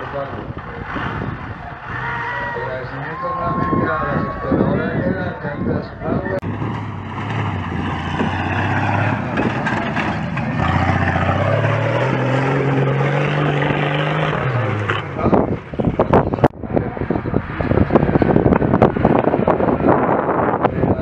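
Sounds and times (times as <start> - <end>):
off-road engine revving: 0.0 - 3.2, 6.4 - 21.0
wind buffeting microphone: 0.0 - 21.0.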